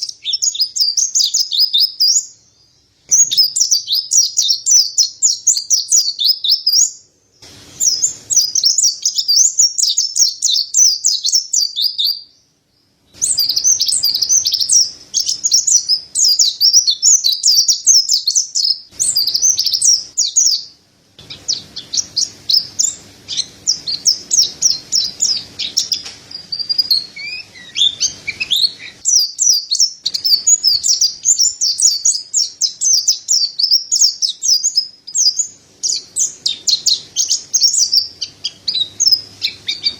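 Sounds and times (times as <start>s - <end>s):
bird twittering warble: 0.0s - 12.4s, 13.1s - 39.9s.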